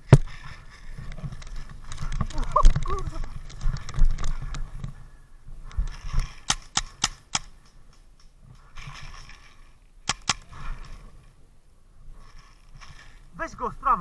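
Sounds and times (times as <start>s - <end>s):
light rustling: 0.0s - 13.4s.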